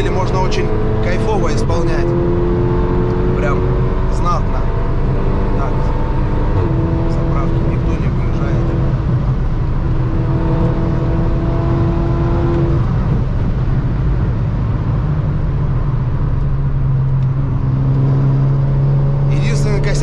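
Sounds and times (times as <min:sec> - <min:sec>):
car engine drone: 0:00.0 - 0:20.0
road noise: 0:00.0 - 0:20.0.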